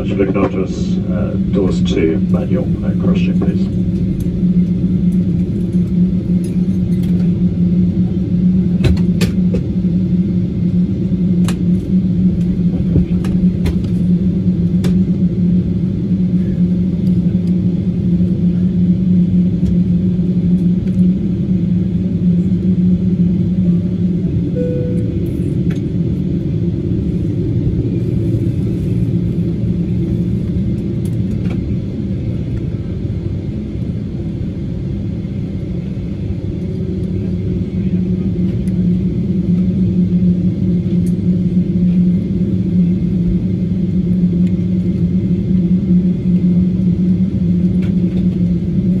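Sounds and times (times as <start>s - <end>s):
airliner cabin engine drone: 0.0s - 49.0s.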